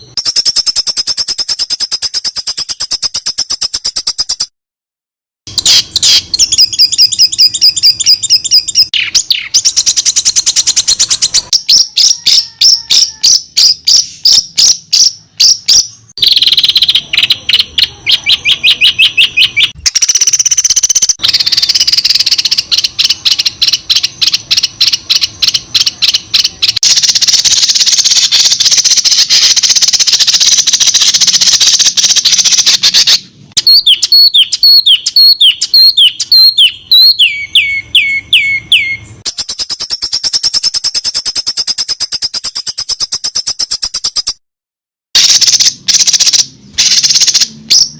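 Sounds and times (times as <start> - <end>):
buzzy bird chattering: 0.0 - 4.5, 5.5 - 44.4, 45.2 - 47.9
songbirds chirping and trilling: 0.0 - 4.5, 5.5 - 44.4, 45.2 - 47.9.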